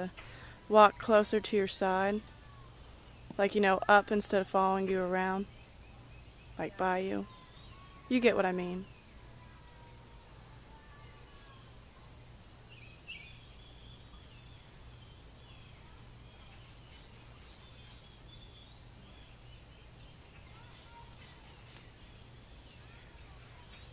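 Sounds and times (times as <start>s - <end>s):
high insect drone: 0.0s - 23.9s.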